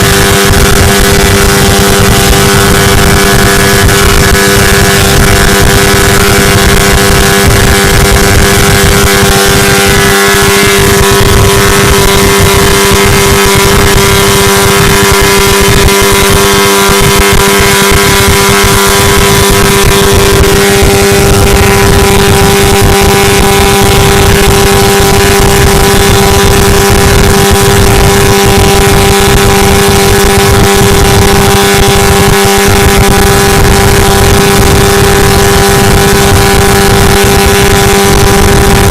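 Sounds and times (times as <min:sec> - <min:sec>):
engine at high revs: 0:00.0 - 0:38.9.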